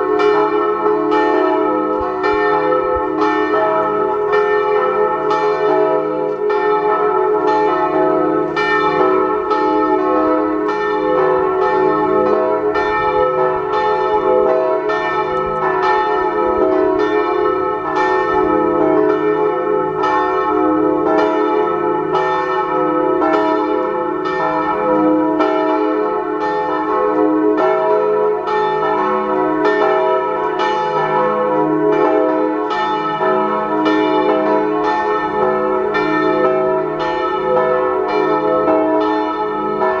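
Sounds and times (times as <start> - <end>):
church bells ringing: 0.0 - 40.0.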